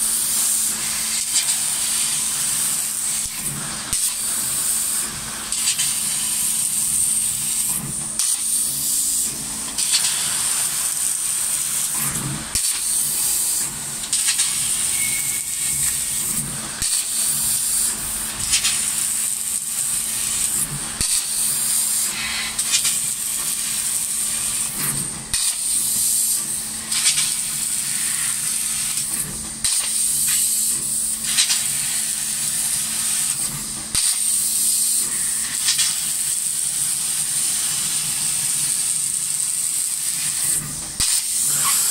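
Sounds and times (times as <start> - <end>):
laser cutter gas hissing: 0.0 - 41.9.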